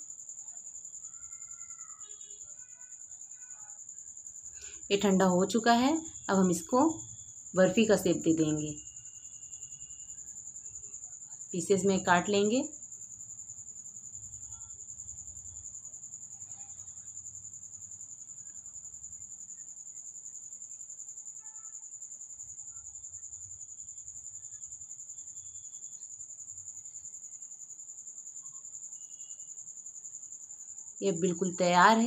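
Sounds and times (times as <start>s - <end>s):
cricket trilling: 0.0s - 32.0s.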